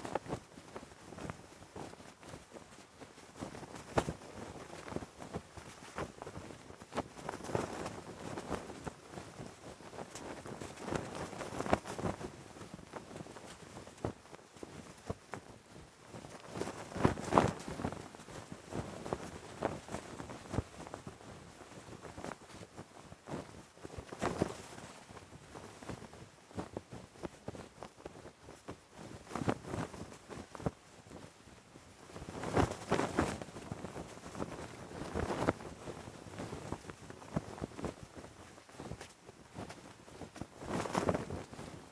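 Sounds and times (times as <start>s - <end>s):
cloth flag flapping in wind: 0.0s - 41.9s.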